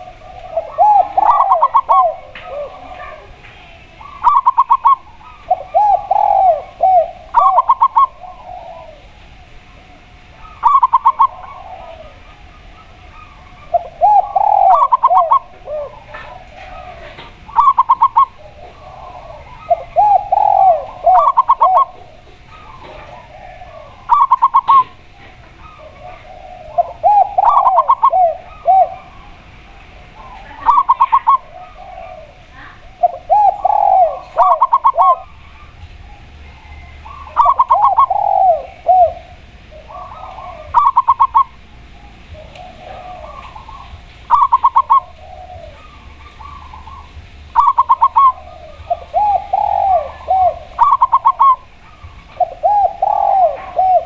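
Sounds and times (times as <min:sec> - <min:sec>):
high quick dove coos: 0:00.0 - 0:09.2, 0:10.4 - 0:29.4, 0:30.2 - 0:35.8, 0:36.7 - 0:41.6, 0:42.3 - 0:54.0
low throaty dove coos: 0:00.0 - 0:54.0.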